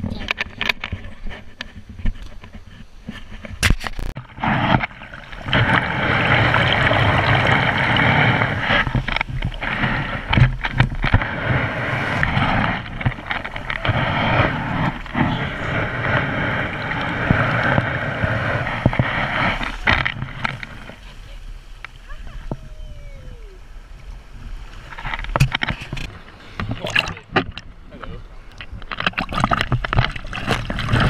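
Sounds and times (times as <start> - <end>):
surf washing over camera: 0.0 - 31.0.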